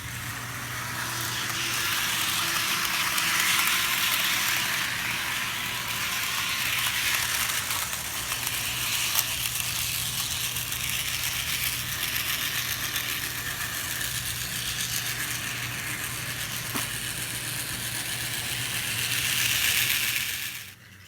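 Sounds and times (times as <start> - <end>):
model train motor humming: 0.0 - 21.0
model train wheels rattling on rails: 0.0 - 21.0.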